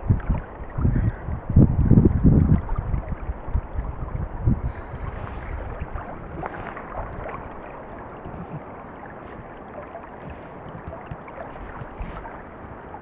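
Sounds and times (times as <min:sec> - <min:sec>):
river water lapping and splashing: 0:00.0 - 0:13.0
wind on microphone: 0:00.0 - 0:13.0.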